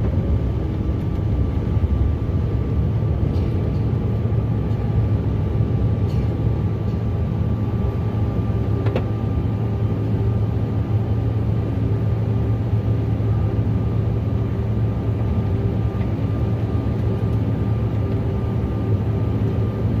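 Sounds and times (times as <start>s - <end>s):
jet engine and airflow drone: 0.0s - 20.0s.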